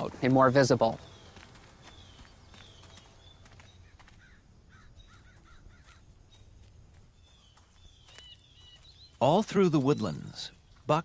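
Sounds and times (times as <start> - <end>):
bird repeated calls: 0.0 - 11.0
birds whistling: 0.8 - 11.0.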